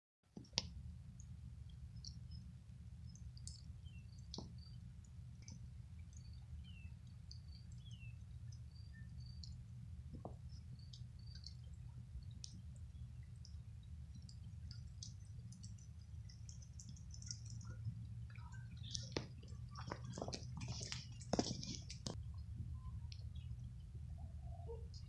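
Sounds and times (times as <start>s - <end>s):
small birds chirping: 0.4s - 25.0s
steady low rumble: 0.8s - 25.0s.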